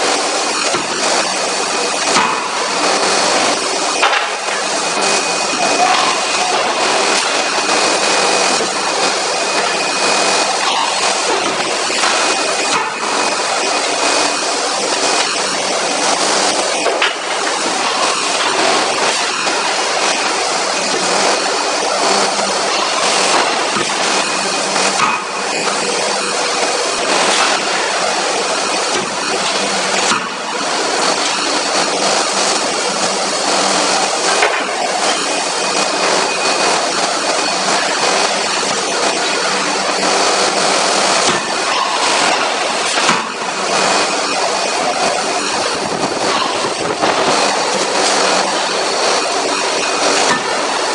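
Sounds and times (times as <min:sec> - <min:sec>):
hissing forge machinery: 0:00.0 - 0:50.9.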